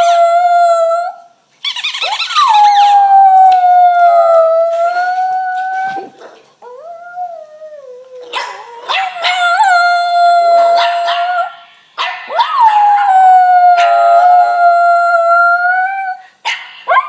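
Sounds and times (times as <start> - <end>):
dog howling: 0.0 - 1.2, 2.0 - 11.5, 12.3 - 16.2.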